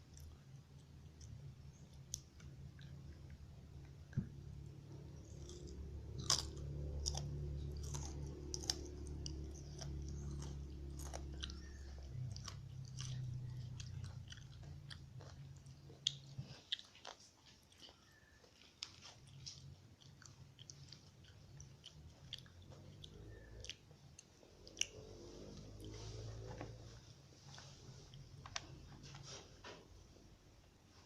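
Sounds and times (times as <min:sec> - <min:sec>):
chewing with wet mouth clicks: 0:00.0 - 0:26.7
low steady hum: 0:00.0 - 0:31.0.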